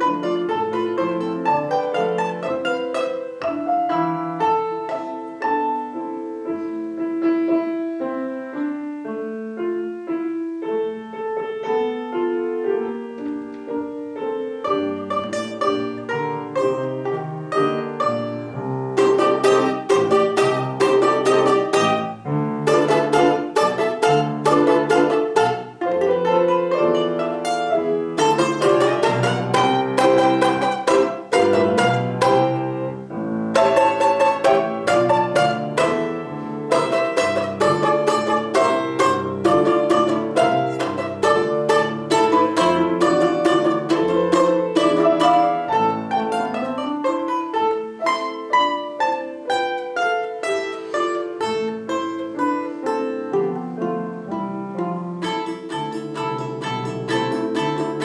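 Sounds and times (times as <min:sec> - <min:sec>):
plucked string instruments melody: 0:00.0 - 0:08.1, 0:10.5 - 0:58.0.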